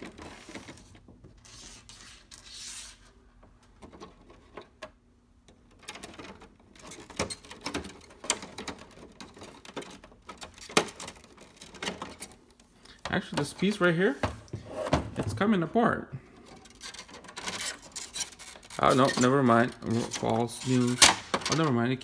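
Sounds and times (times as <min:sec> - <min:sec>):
hands rustling wiring: 0:00.0 - 0:14.2, 0:16.3 - 0:21.8.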